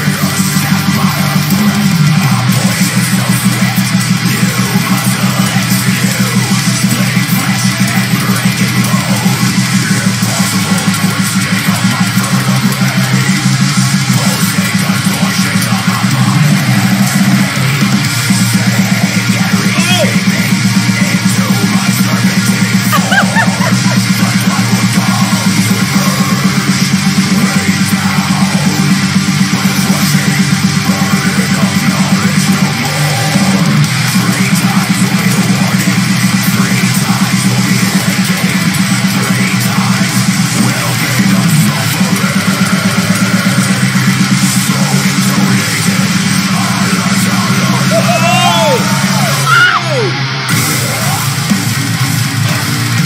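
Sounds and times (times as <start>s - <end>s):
distorted electric guitars: 0.0s - 53.0s
fast driving drums: 0.0s - 53.0s
heavy metal song: 0.0s - 53.0s.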